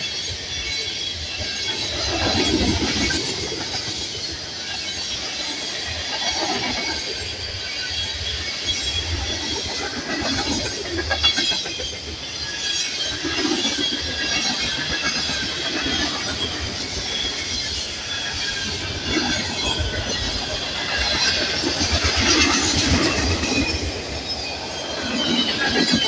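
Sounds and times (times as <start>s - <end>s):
high wheel squeal: 0.0s - 26.0s.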